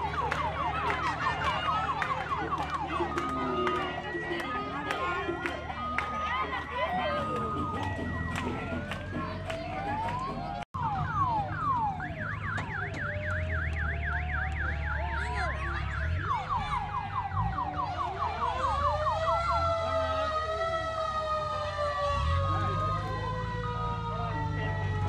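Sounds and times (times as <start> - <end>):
sirens wailing: 0.0 - 25.0
sirens yelping: 0.0 - 25.0.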